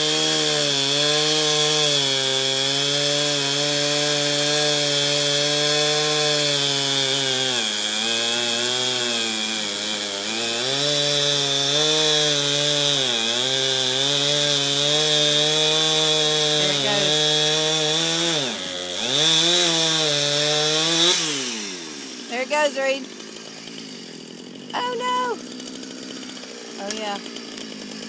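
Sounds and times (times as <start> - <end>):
chainsaw cutting into tree trunk: 0.0 - 28.0.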